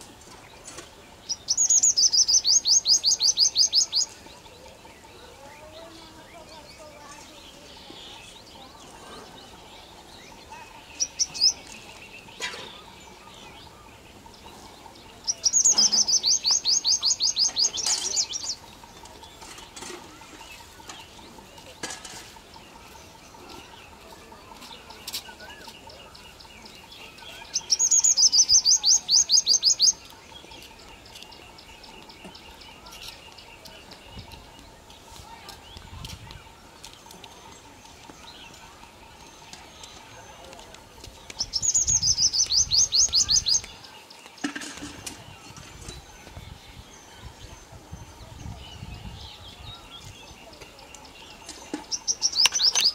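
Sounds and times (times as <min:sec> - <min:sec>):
low background noise: 0:00.0 - 0:52.9
high bird chirps: 0:00.6 - 0:04.3, 0:10.1 - 0:21.7, 0:22.3 - 0:40.2, 0:41.3 - 0:46.6, 0:48.4 - 0:52.9.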